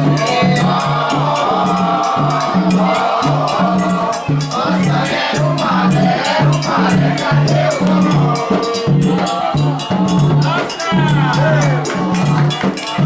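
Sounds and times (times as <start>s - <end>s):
drums: 0.0s - 13.0s
group of voices chanting: 0.0s - 13.0s
shaker rhythm: 0.0s - 13.0s.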